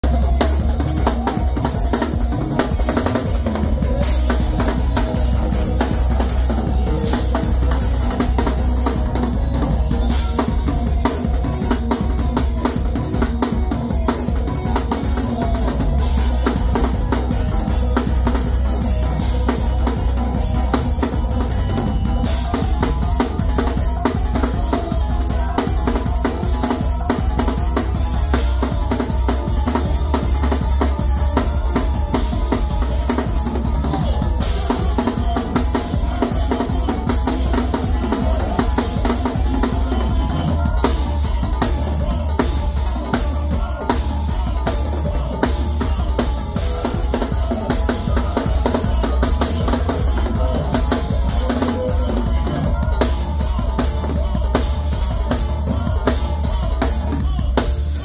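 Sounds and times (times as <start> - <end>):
drum kit played hard: 0.0 - 58.0.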